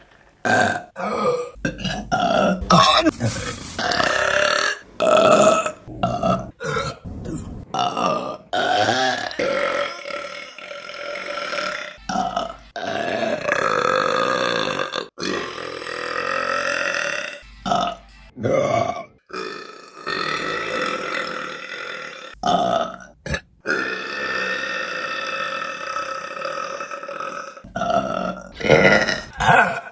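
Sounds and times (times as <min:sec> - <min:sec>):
women burping: 0:00.4 - 0:03.2, 0:03.8 - 0:07.0, 0:07.9 - 0:29.9.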